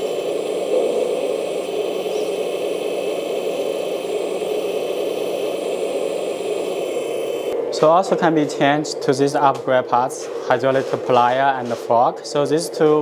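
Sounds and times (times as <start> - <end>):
hydraulic pump humming: 0.0 - 13.0.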